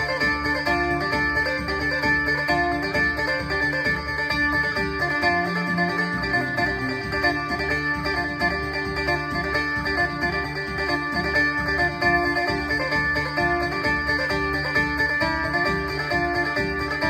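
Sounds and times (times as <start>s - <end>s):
amplified plucked lute melody: 0.0s - 17.0s.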